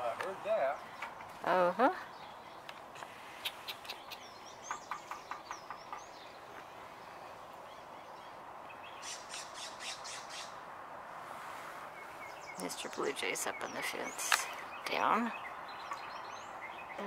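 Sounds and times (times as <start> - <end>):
small birds chirping: 0.0 - 10.6, 11.5 - 17.0.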